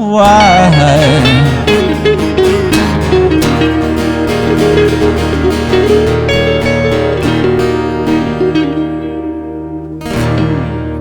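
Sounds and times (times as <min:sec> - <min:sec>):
acoustic guitar blues: 0:00.0 - 0:11.0.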